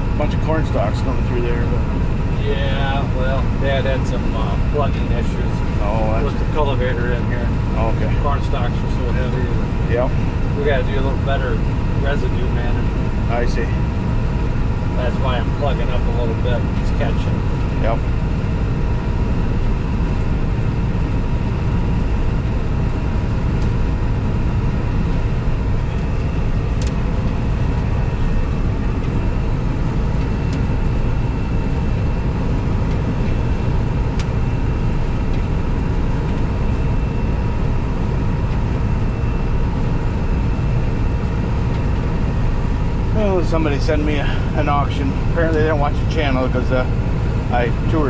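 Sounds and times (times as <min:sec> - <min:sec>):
combine engine and threshing drone: 0:00.0 - 0:48.0
steady machinery whine: 0:00.0 - 0:48.0.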